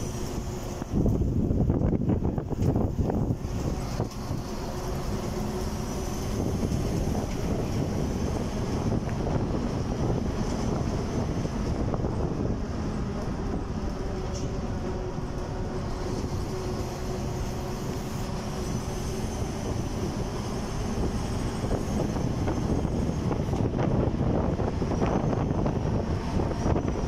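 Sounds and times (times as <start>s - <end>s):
vehicle engine and road noise: 0.0s - 27.0s
wind on microphone: 0.0s - 27.0s.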